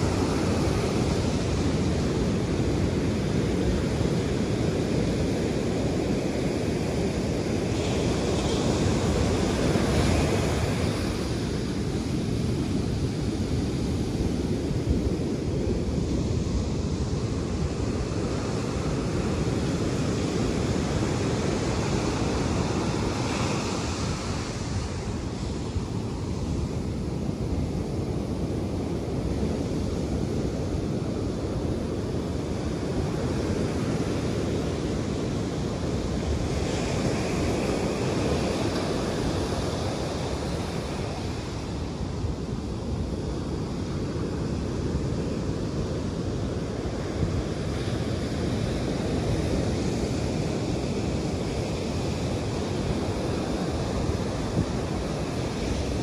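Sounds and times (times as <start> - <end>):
surf breaking on beach: 0.0 - 56.0
wind buffeting microphone: 0.0 - 56.0.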